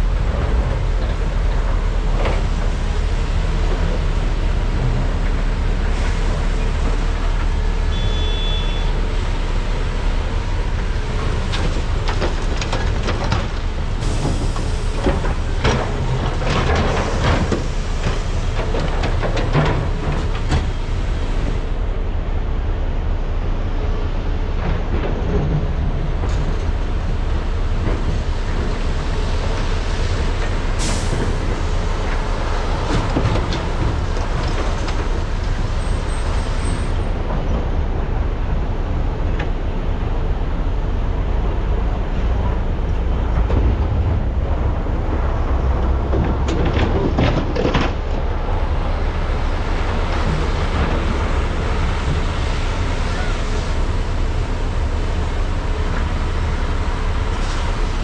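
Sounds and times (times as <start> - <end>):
excavator diesel engines running: 0.0 - 58.0.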